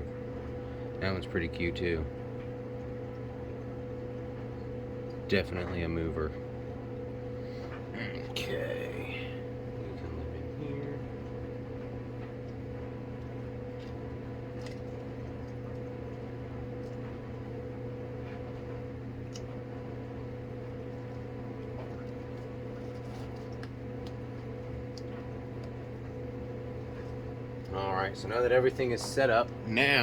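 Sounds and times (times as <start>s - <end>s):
machine hum with tones: 0.0s - 30.0s.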